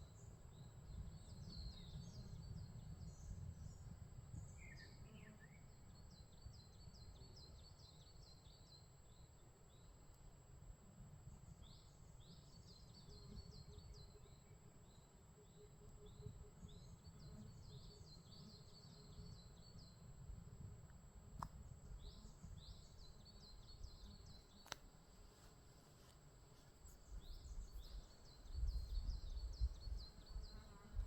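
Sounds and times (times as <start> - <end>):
songbirds chirping: 0.0 - 10.4, 11.3 - 31.0.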